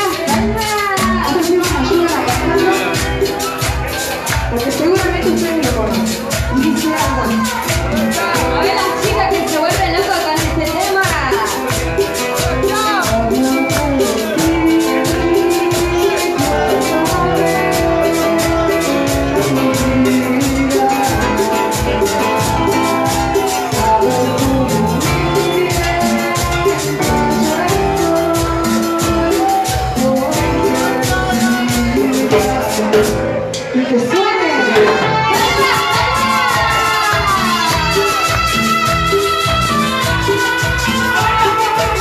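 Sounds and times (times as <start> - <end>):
band playing live: 0.0 - 42.0.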